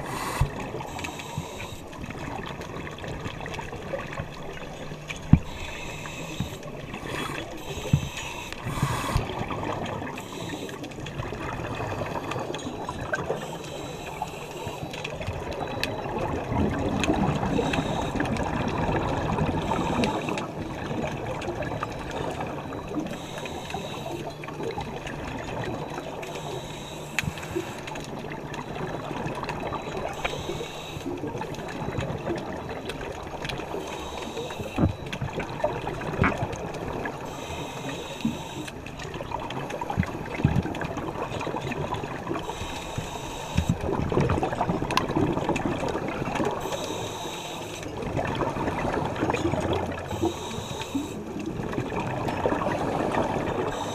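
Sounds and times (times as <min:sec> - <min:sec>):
muffled underwater noise: 0:00.0 - 0:53.9
scuba exhaust bubbles: 0:00.0 - 0:53.9.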